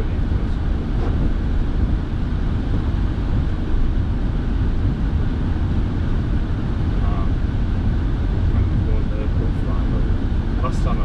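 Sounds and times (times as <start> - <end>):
car engine and tyre noise: 0.0 - 11.0
heater fan blowing: 0.0 - 11.0.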